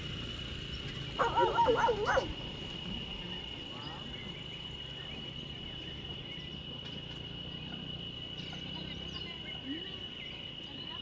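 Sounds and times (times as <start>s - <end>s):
high-pitched insect trill: 0.0s - 11.0s
low outdoor background noise: 0.0s - 11.0s.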